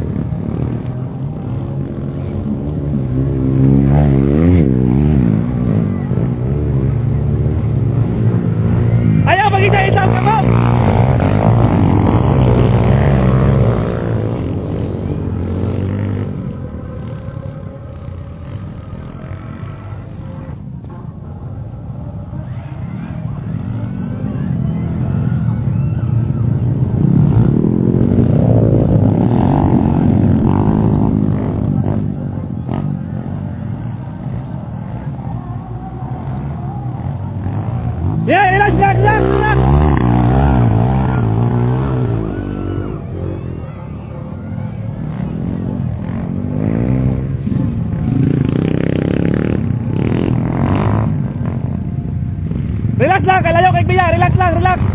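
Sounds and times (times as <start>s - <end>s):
dirt bike engine revving: 0.0s - 20.5s, 26.3s - 54.9s.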